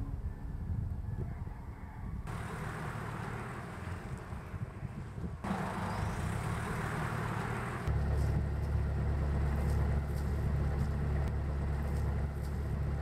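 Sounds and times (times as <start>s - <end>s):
boat engine droning: 2.3s - 13.0s.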